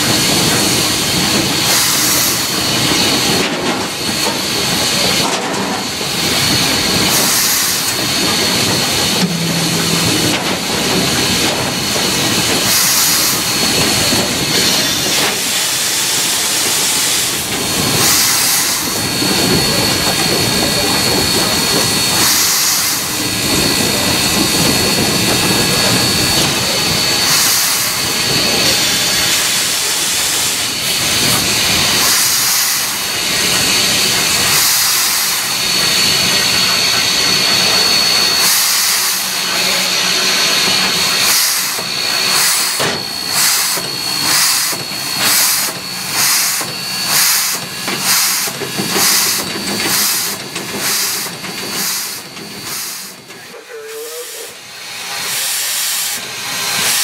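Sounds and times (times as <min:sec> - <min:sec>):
locomotive exhaust chuffs: 0:00.0 - 0:53.6
loud steam hiss: 0:00.0 - 0:57.0.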